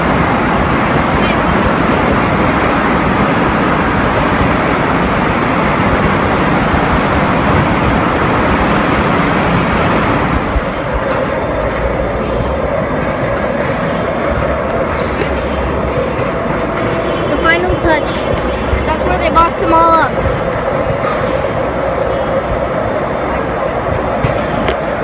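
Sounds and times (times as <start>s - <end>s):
factory machinery clattering: 0.0s - 25.0s.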